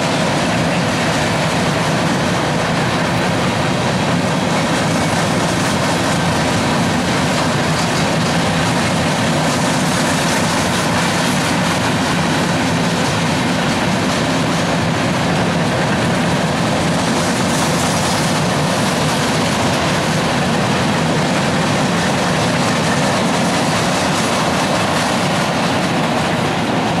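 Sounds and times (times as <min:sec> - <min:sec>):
freight train wheels clattering on rails: 0:00.0 - 0:27.0.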